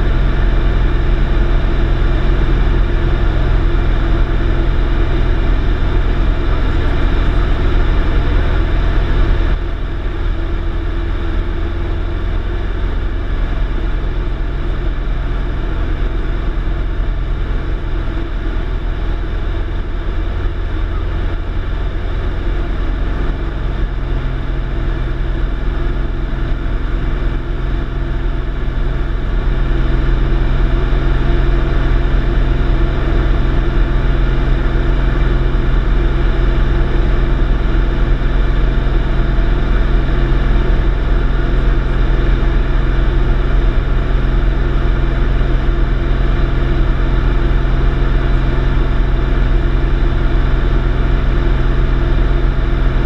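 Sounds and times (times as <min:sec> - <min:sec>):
propeller aircraft engine droning: 0:00.0 - 0:53.0.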